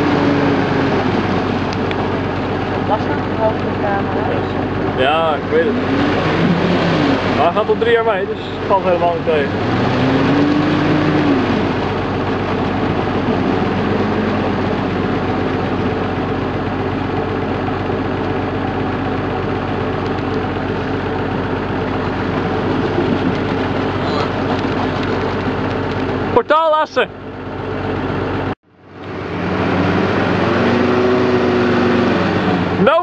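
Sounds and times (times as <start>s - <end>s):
off-road vehicle engine at low revs: 0.0s - 33.0s.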